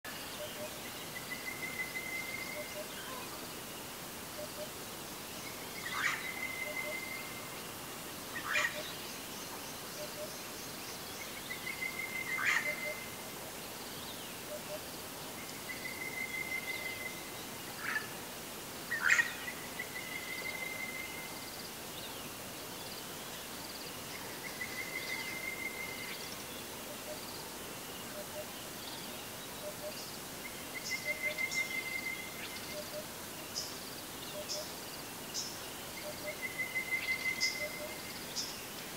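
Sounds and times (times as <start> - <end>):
outdoor hiss: 0.1 - 38.9.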